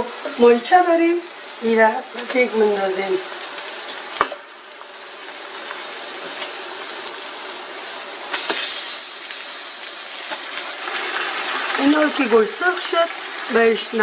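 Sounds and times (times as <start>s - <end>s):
meat and onions sizzling: 0.0s - 14.0s.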